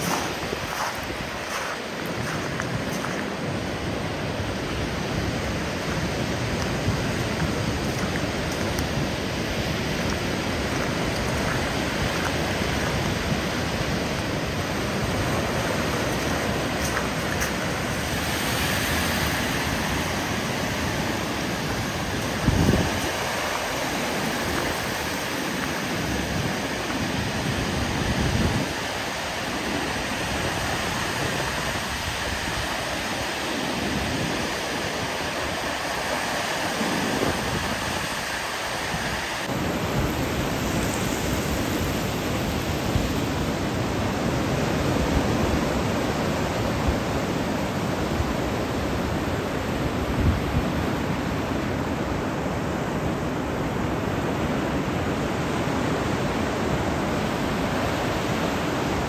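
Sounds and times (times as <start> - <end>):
wind buffeting microphone: 0.0 - 53.0
surf breaking on beach: 0.0 - 59.0.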